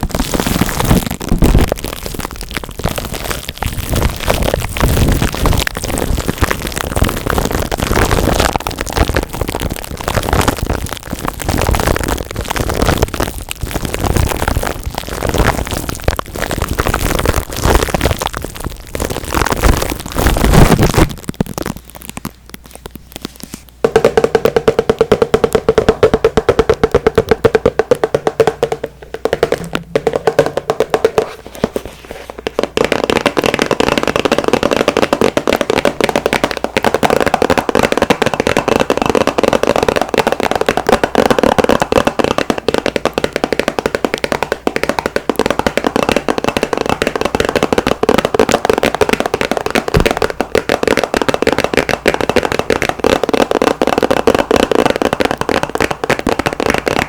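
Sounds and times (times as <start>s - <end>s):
crackling and scratching: 0.0s - 57.0s
fast steady tapping: 0.0s - 57.0s.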